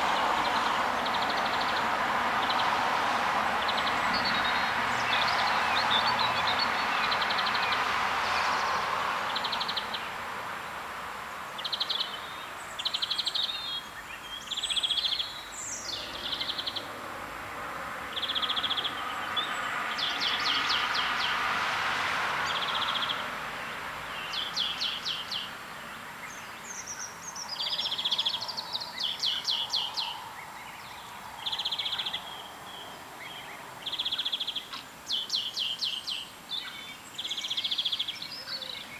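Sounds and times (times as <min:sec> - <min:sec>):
small birds chirping: 0:00.0 - 0:02.8, 0:03.6 - 0:10.2, 0:11.5 - 0:17.0, 0:18.0 - 0:21.4, 0:22.4 - 0:38.9.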